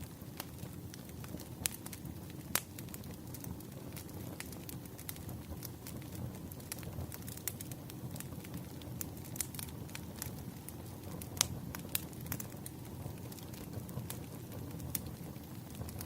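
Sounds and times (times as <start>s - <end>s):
low rumble of burning logs: 0.0s - 16.0s
wood fire crackling and popping: 0.0s - 16.0s.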